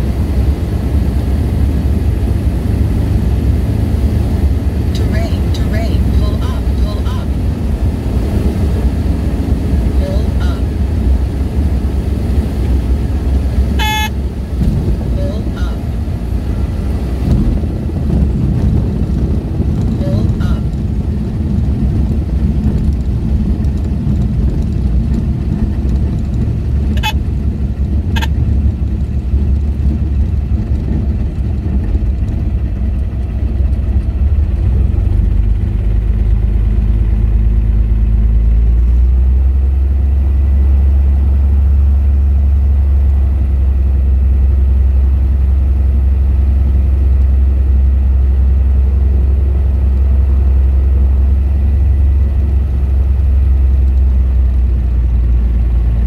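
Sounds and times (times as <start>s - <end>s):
plane engine idling: 0.0s - 56.0s.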